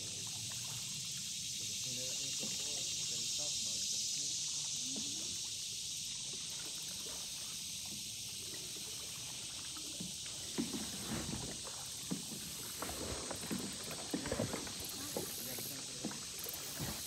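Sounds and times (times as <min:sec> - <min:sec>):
insects droning: 0:00.0 - 0:17.0
paddle strokes splashing: 0:00.0 - 0:17.0.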